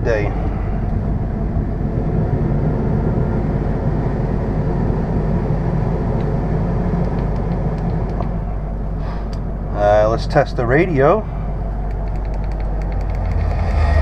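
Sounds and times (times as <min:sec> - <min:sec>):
climate control fan blowing: 0:00.0 - 0:14.0
diesel engine idling: 0:00.0 - 0:14.0.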